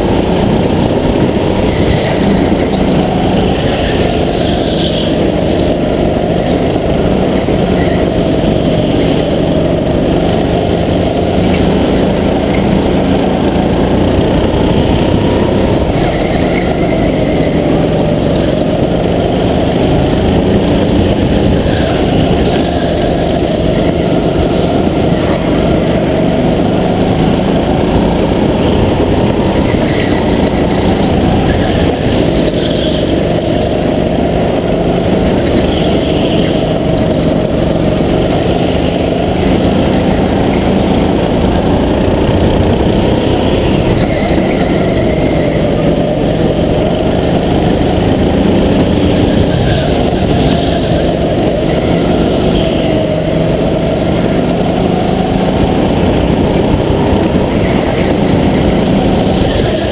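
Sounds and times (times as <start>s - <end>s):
go-kart engine running hard: 0.0s - 59.9s.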